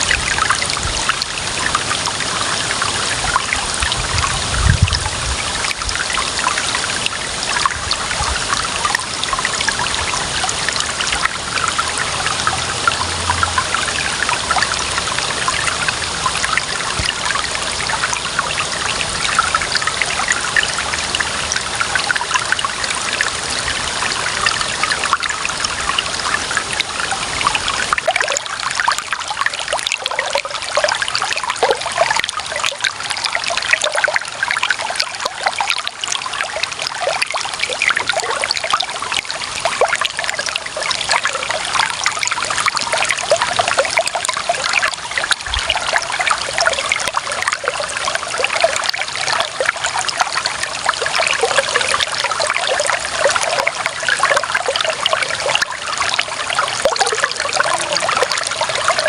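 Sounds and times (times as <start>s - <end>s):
water trickling over stones: 0.0s - 59.0s.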